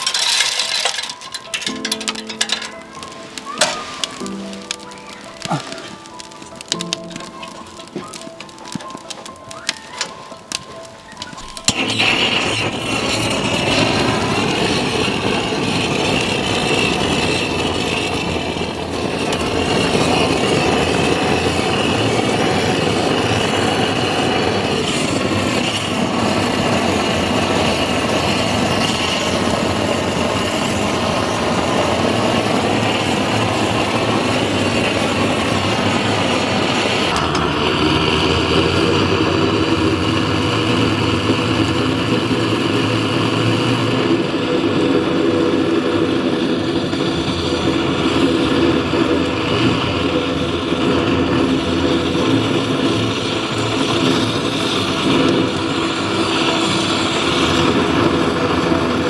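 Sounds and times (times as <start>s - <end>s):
small engine running: 11.5s - 59.0s.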